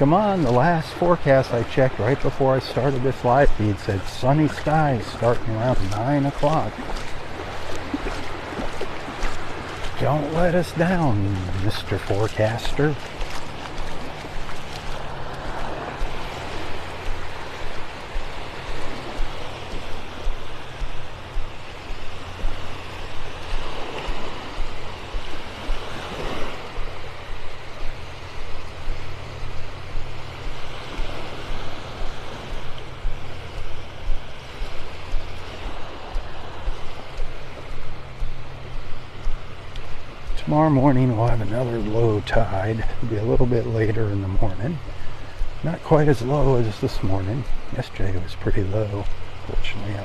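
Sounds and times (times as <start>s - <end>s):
feet wading through water: 0.0s - 50.0s
wash of shallow water: 0.0s - 50.0s.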